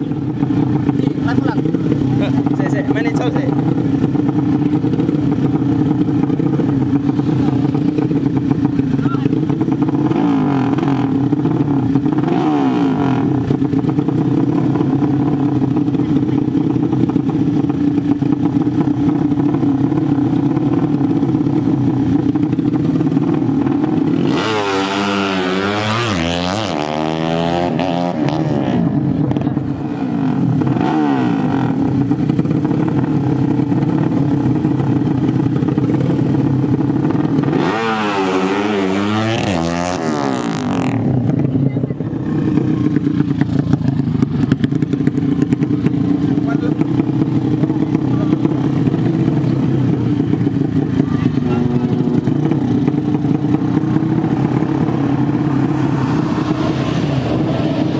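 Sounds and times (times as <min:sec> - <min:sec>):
drag bike engines revving: 0:00.0 - 0:57.9.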